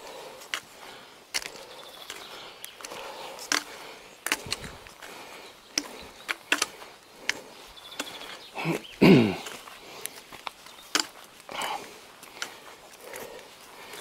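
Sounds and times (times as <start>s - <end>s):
footsteps on a path: 0.0s - 14.0s.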